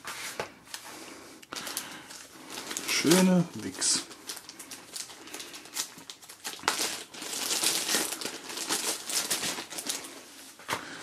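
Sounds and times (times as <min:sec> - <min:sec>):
packaging crinkling and rustling: 0:01.5 - 0:11.0.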